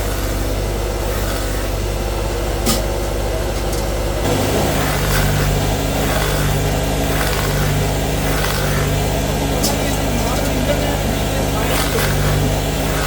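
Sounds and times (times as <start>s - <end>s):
deeper hum: 0.0s - 13.0s
factory machinery humming: 0.0s - 13.0s.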